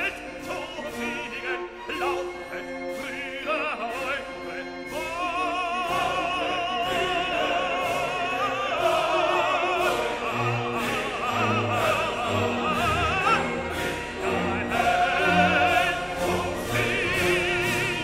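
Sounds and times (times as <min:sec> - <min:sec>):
opera singing: 0:00.0 - 0:18.0
orchestral accompaniment: 0:00.0 - 0:18.0.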